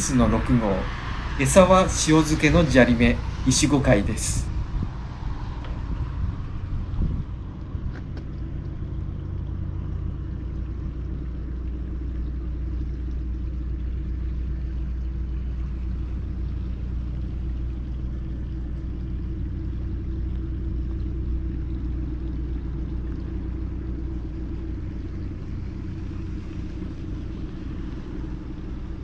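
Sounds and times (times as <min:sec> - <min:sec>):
low mechanical drone: 0:00.0 - 0:29.0.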